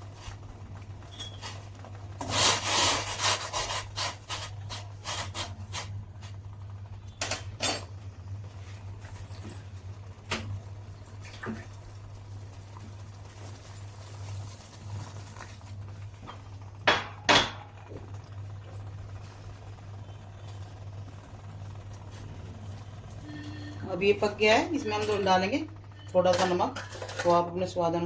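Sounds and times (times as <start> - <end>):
water boiling in a pan: 0.0 - 28.0
low steady hum: 4.2 - 28.0.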